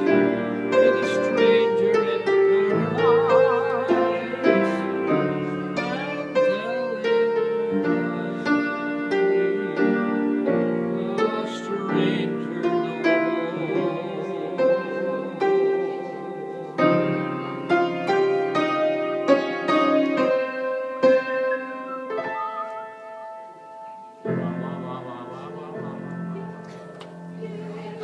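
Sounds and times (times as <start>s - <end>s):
piano playing chords and melody: 0.0s - 28.0s.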